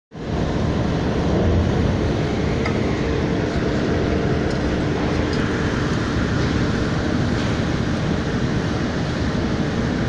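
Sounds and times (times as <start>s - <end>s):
faint constant hum: 0.2s - 10.0s
machinery noise: 0.2s - 10.0s.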